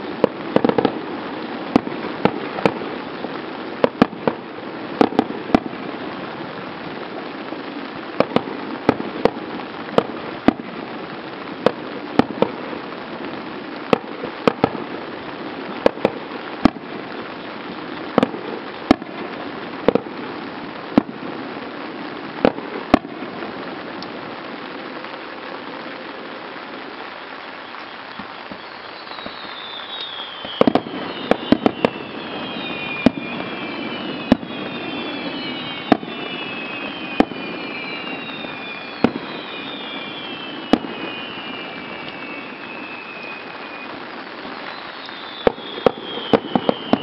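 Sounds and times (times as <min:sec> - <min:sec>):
fireworks whistles falling in pitch: 0:00.0 - 0:21.3, 0:22.4 - 0:47.0
fireworks bursting bangs: 0:00.0 - 0:47.0.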